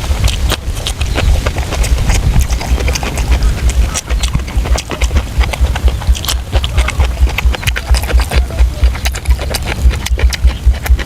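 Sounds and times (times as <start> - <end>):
wet chewing smacks: 0.0 - 11.0
small sticky clicks: 0.2 - 11.0.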